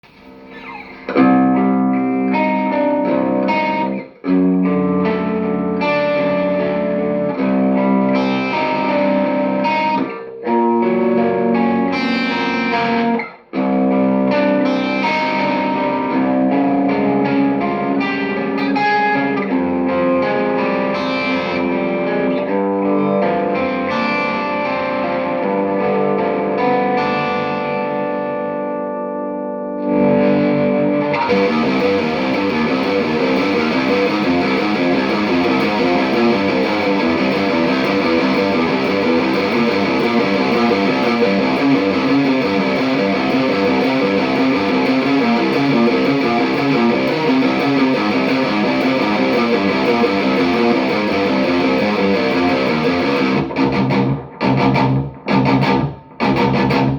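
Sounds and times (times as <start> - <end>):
distorted electric guitar riffing: 0.0 - 56.9
clean electric guitar arpeggio: 0.3 - 56.9.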